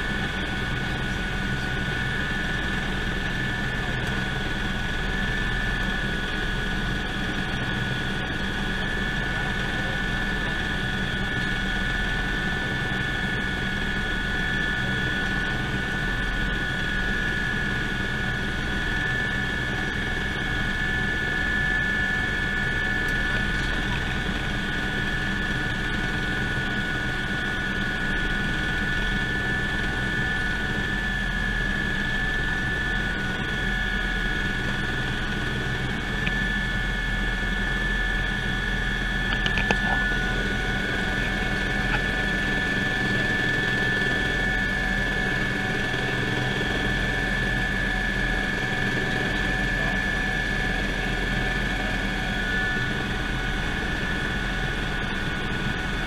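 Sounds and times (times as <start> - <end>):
helicopter turbine whine: 0.0 - 56.0
rotor drone: 0.0 - 56.0.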